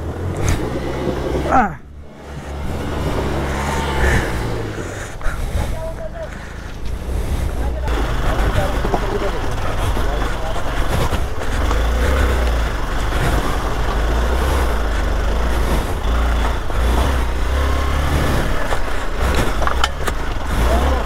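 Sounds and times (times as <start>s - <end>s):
motorcycle engine running: 0.0s - 21.0s
steady rushing noise: 1.9s - 21.0s.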